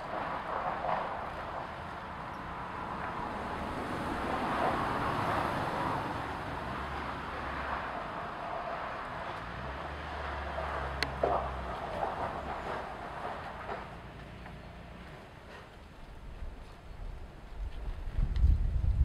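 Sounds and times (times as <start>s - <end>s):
distant road traffic: 0.0s - 19.0s.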